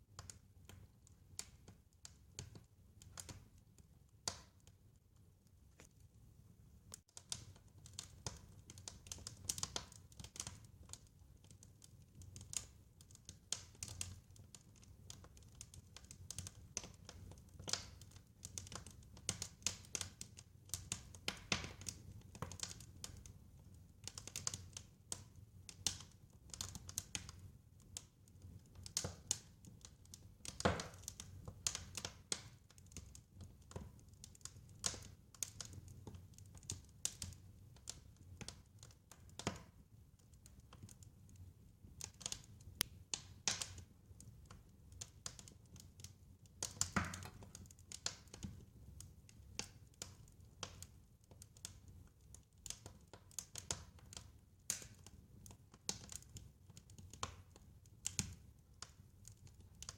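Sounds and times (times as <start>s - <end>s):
wood fire crackling and popping: 0.1s - 6.2s, 6.8s - 59.9s.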